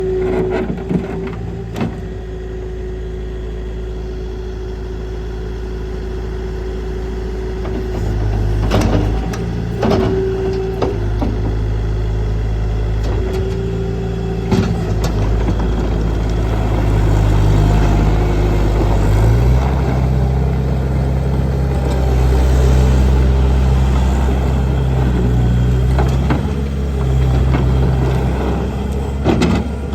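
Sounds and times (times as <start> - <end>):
loader diesel engine running: 0.0 - 29.9.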